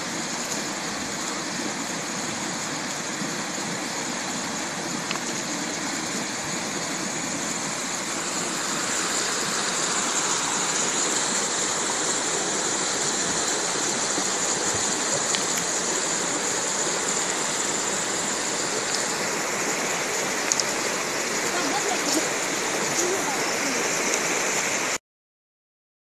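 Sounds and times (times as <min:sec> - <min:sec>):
river water rushing over stones: 0:00.0 - 0:25.0.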